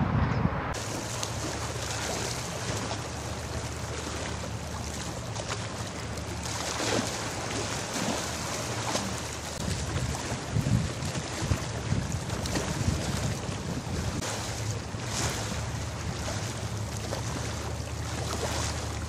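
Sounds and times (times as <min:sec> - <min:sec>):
low machinery hum: 0:00.0 - 0:19.0
wind: 0:00.0 - 0:19.0
water lapping: 0:00.8 - 0:19.0.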